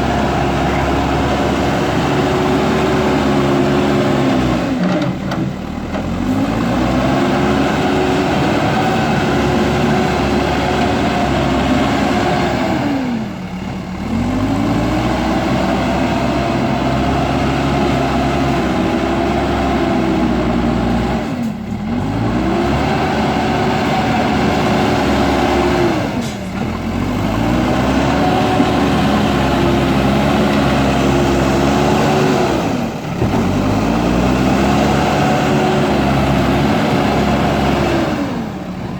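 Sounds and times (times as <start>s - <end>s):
diesel engine at high revs: 0.0s - 38.9s.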